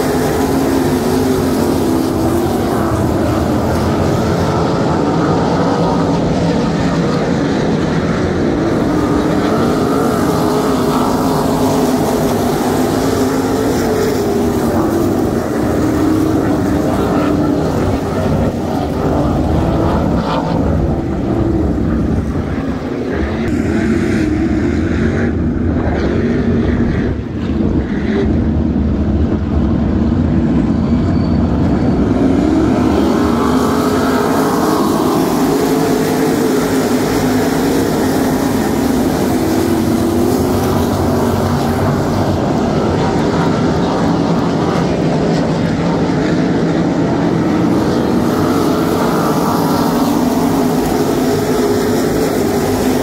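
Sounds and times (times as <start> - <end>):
race car engines roaring: 0.0 - 53.0.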